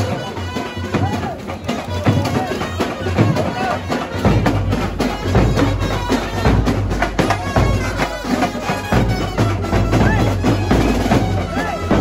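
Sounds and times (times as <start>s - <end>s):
dense drumming: 0.0s - 12.0s.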